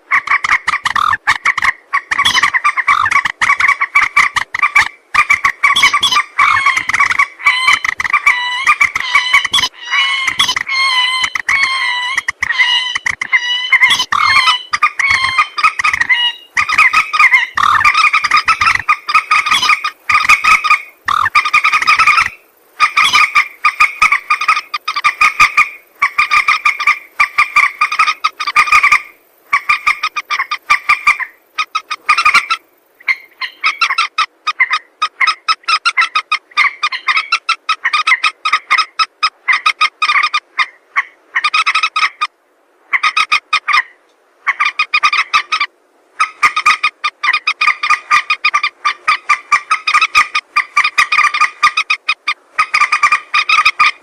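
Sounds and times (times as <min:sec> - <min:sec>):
moorhen calling: 0:00.0 - 0:54.0.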